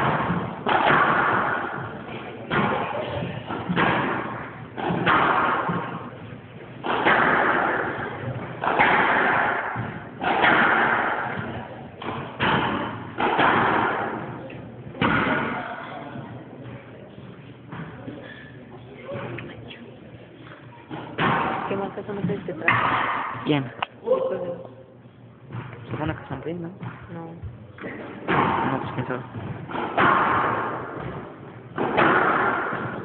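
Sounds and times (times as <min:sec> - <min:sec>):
squash ball hitting rackets and walls: 0:00.0 - 0:17.0, 0:20.9 - 0:23.5, 0:25.5 - 0:27.2, 0:27.8 - 0:33.0.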